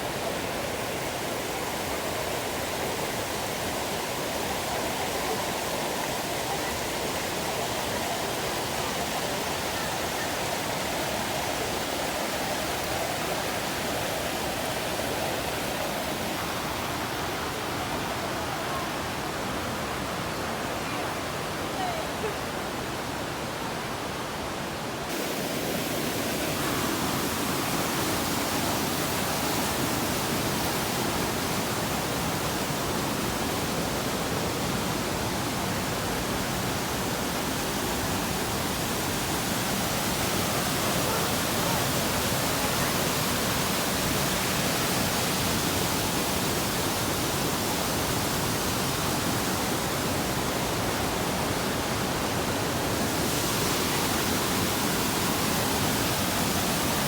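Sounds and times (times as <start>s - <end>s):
waterfall: 0.0s - 57.0s.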